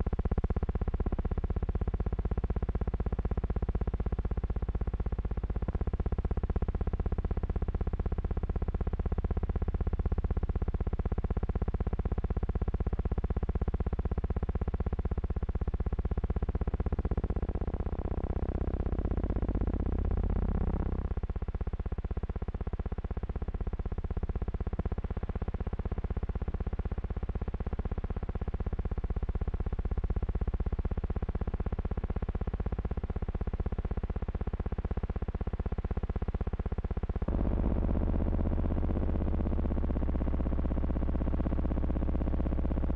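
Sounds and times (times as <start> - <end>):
buzzing electrical hum: 0.0 - 42.9.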